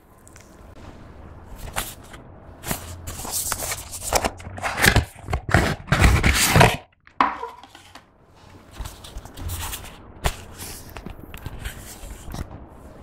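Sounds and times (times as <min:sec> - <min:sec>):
paper rustling on cardboard: 0:01.5 - 0:12.5.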